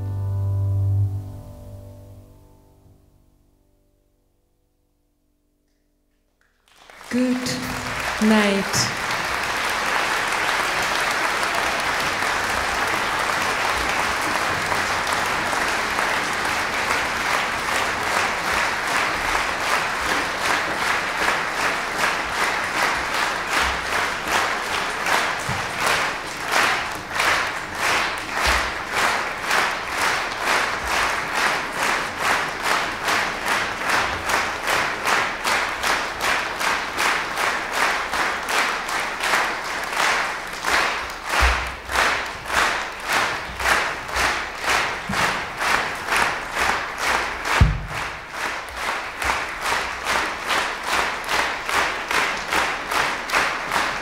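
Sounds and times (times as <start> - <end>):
audience applauding: 6.4 - 54.0
rhythmic clapping in unison: 6.4 - 54.0.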